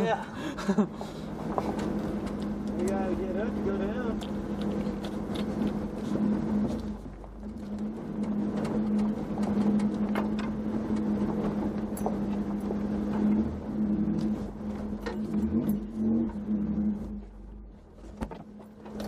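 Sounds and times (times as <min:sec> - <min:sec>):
truck engine running: 0:00.0 - 0:19.0
knocks and rattles on rough dirt: 0:00.7 - 0:19.0.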